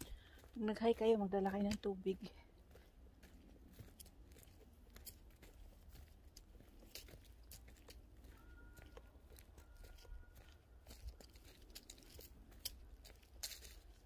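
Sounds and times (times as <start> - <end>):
footsteps on dry leaves: 0.0 - 14.0.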